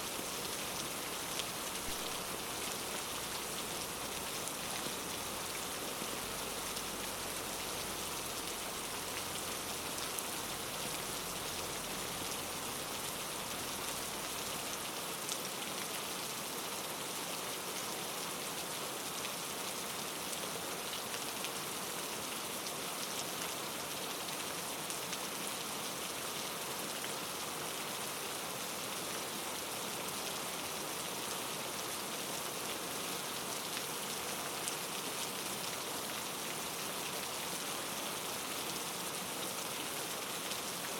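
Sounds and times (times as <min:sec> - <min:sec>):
steady rainfall hiss: 0:00.0 - 0:40.9.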